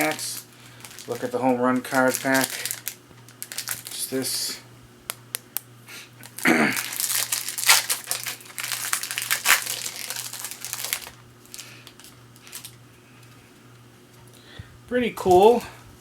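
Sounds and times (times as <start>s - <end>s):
plastic wrapper crinkling: 0.0s - 5.6s, 6.2s - 13.4s.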